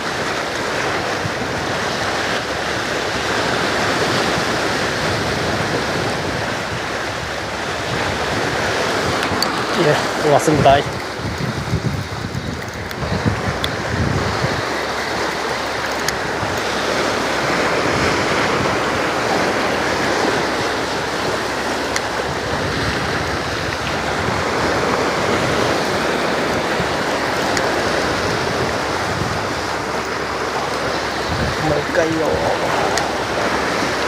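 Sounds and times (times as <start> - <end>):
sea surf: 0.0 - 34.0
wind on microphone: 0.0 - 34.0.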